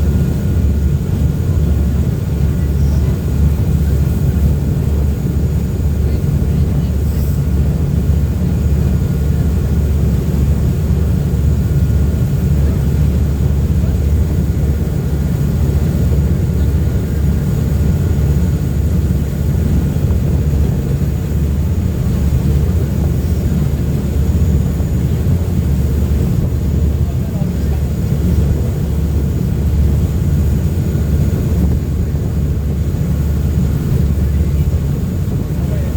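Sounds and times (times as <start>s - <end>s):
boat engines rumbling: 0.0s - 35.9s
water rushing: 0.0s - 35.9s
wind: 0.0s - 35.9s.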